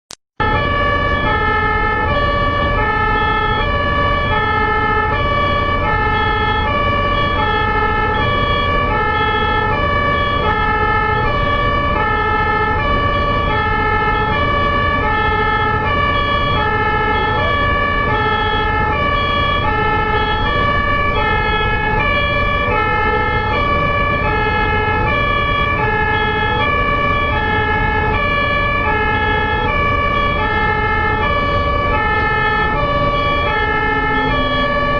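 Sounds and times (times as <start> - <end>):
ambulance two-tone siren: 0.4 - 34.9
low vehicle and road rumble: 0.4 - 34.9.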